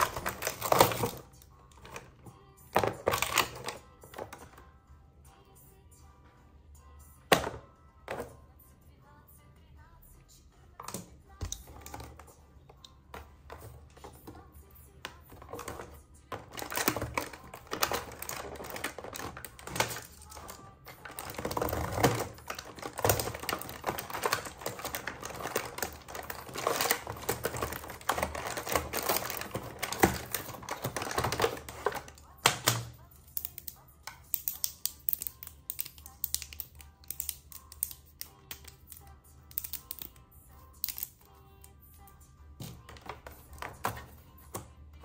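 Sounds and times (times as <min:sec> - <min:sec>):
plastic toys and packaging crackling: 0:00.0 - 0:04.8, 0:10.7 - 0:41.8, 0:42.5 - 0:45.0.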